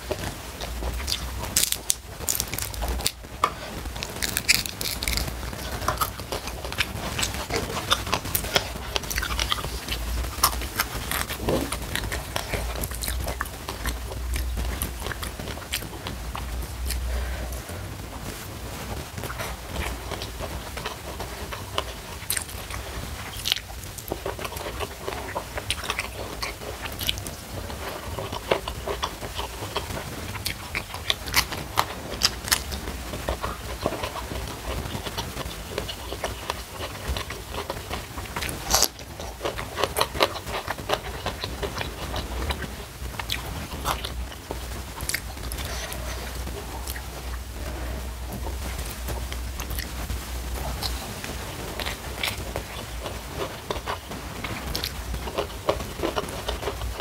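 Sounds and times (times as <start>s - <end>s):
chewing with crisp crunches: 0.0s - 57.0s
steady low hum: 0.0s - 57.0s.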